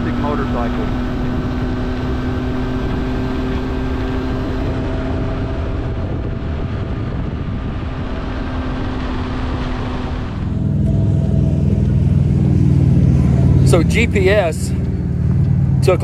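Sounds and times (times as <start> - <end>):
heavy wind rush: 0.0 - 16.0
motorcycle engine cruising: 0.0 - 16.0.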